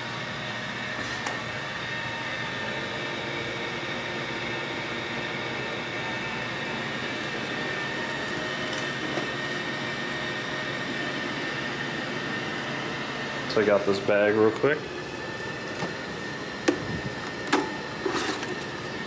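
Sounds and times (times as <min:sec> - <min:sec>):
robot vacuum humming: 0:00.0 - 0:19.0.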